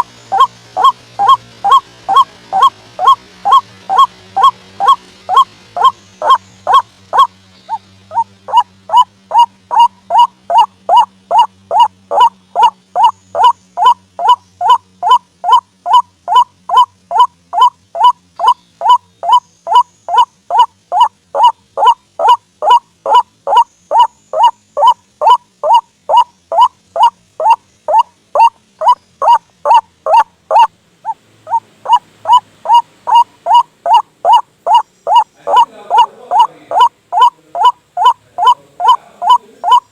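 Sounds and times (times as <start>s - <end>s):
bird calling in short loud calls: 0.0s - 39.9s.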